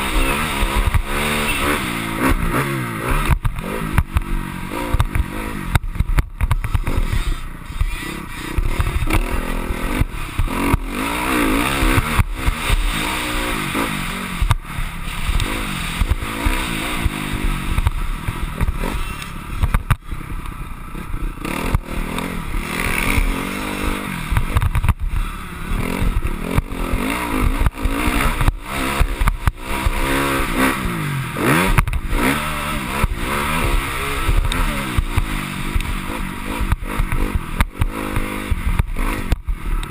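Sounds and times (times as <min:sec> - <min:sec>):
bike rattles and knocks: 0:00.0 - 0:39.9
motocross bike engine revving: 0:00.0 - 0:39.9.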